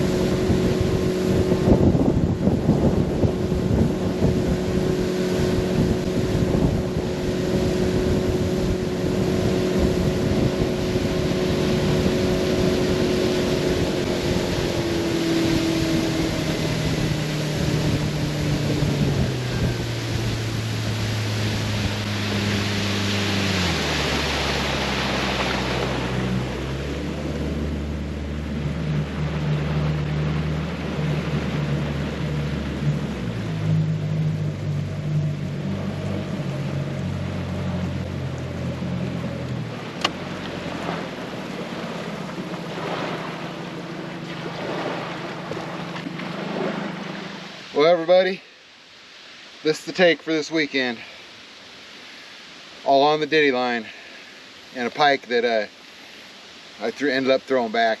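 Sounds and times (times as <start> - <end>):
boat motor running: 0.0 - 48.3
water noise: 0.0 - 58.0
wind: 0.0 - 58.0.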